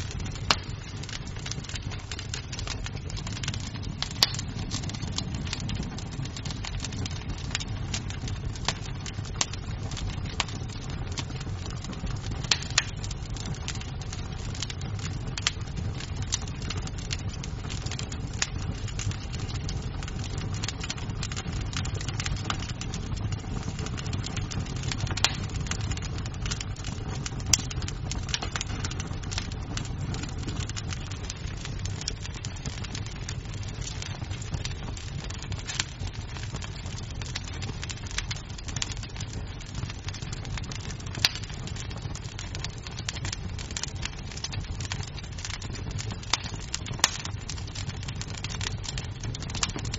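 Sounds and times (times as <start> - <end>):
burning wood popping: 0.0 - 49.9
wood fire crackling: 0.0 - 49.9.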